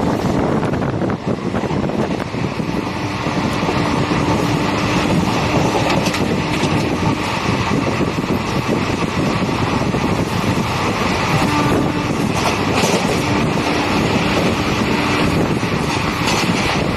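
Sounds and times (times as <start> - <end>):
passenger train rumbling: 0.0 - 16.9.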